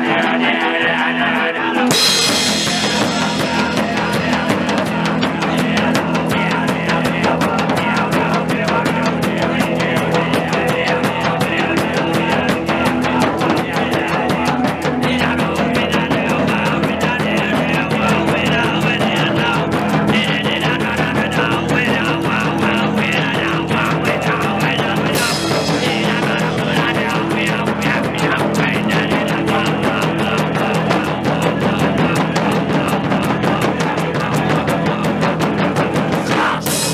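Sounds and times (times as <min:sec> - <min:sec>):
drum beat: 0:01.6 - 0:36.9
rock band music: 0:01.6 - 0:36.9.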